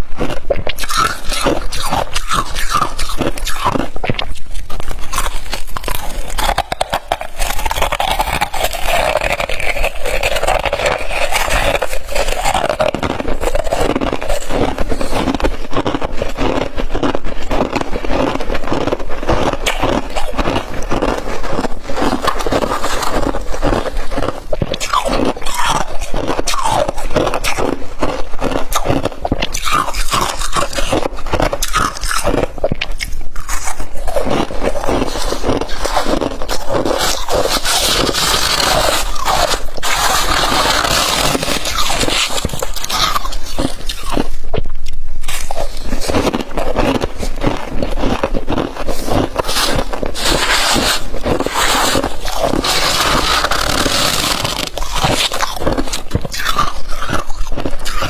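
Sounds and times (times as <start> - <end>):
frost crunching and squeaking: 0.0 - 58.0.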